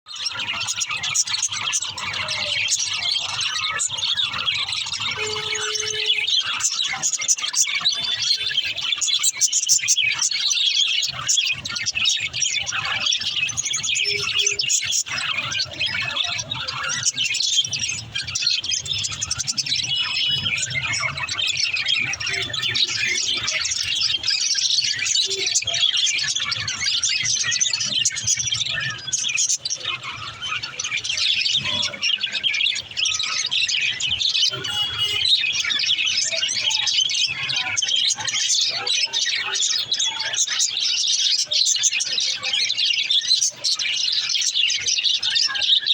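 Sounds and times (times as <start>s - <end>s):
budgerigars chirping: 0.1s - 45.9s.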